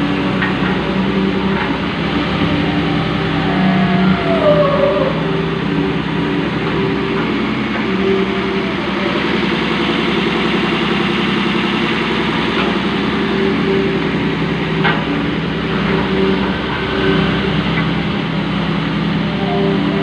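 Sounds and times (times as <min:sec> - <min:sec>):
road roller engine running: 0:00.0 - 0:20.0.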